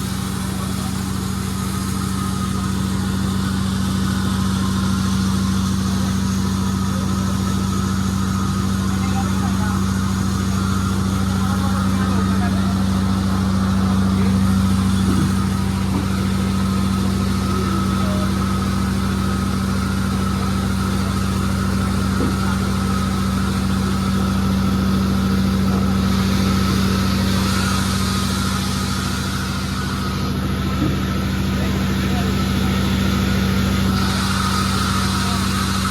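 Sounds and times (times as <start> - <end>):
power unit humming: 0.0 - 35.9.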